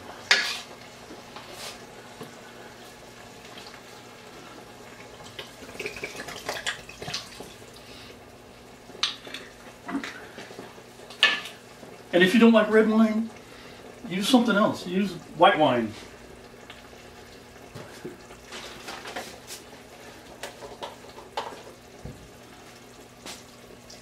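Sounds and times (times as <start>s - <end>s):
wine splashing and sizzling in pot: 0.0s - 24.0s.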